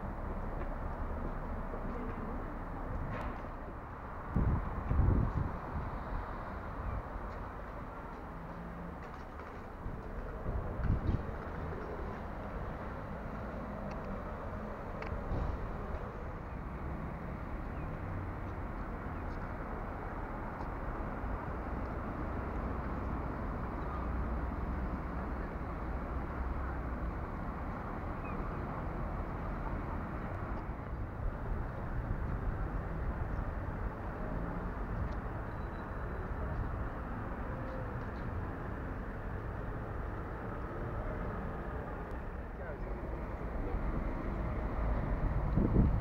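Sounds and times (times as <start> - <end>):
town ambience rumble and hiss: 0.0 - 46.0.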